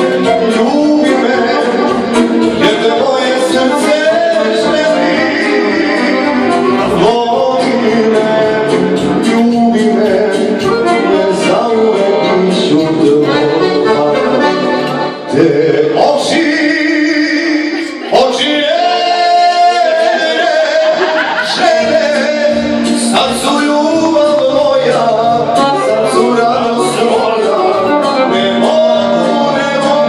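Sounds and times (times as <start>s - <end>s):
instrumental accompaniment: 0.0s - 30.0s
man singing into a microphone: 0.0s - 30.0s.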